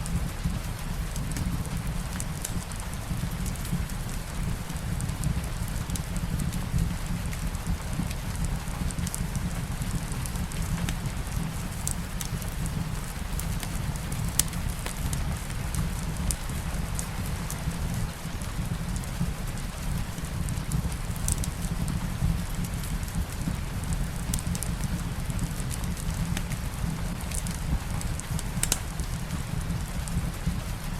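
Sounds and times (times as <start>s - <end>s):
light rain: 0.0s - 30.9s
wood fire crackling: 0.0s - 30.9s.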